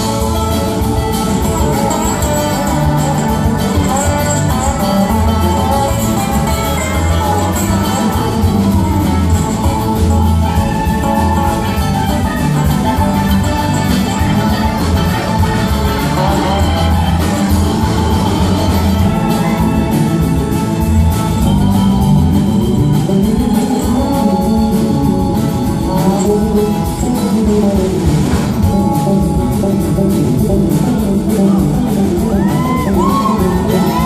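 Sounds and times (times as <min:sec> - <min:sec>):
live band playing: 0:00.0 - 0:34.0.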